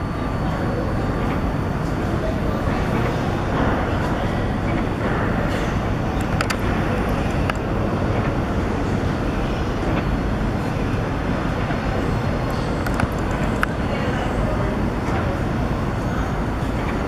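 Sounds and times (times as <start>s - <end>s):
outdoor city noise: 0.0s - 17.0s.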